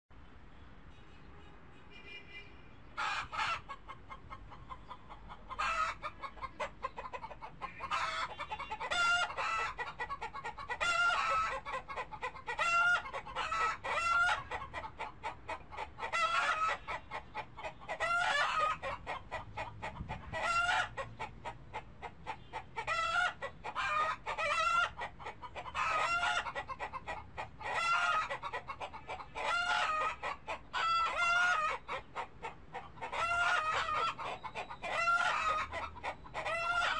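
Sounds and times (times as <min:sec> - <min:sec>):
birds clucking: 0:02.8 - 0:36.9.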